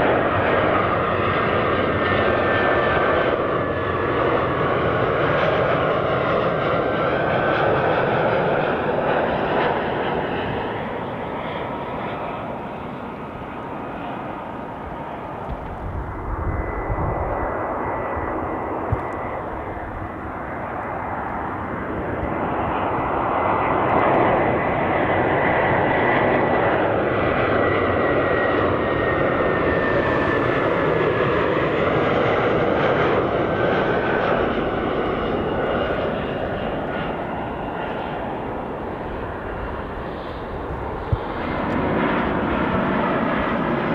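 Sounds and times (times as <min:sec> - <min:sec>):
jet engine whine: 0:00.0 - 0:43.9.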